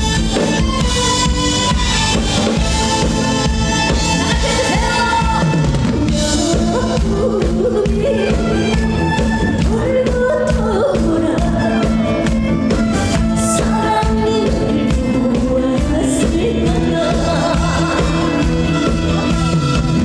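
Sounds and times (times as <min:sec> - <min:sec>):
backing music with drum beat: 0:00.0 - 0:20.0
woman singing: 0:01.1 - 0:20.0.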